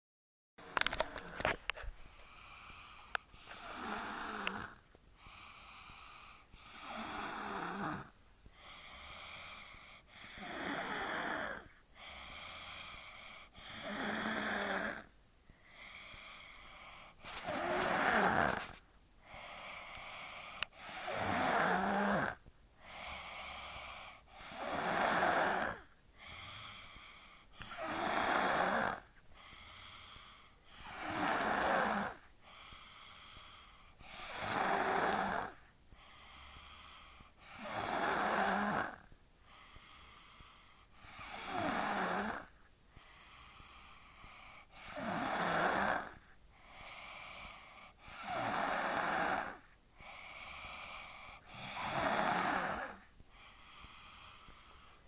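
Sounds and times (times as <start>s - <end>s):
person snoring: 0.6s - 55.0s
quiet breathing: 0.6s - 55.0s.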